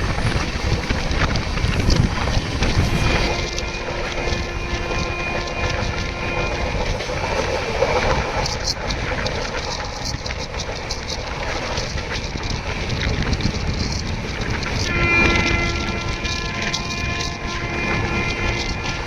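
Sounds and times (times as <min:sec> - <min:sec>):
faint steady tones: 0:00.0 - 0:19.0
train rumbling on track: 0:00.0 - 0:19.0.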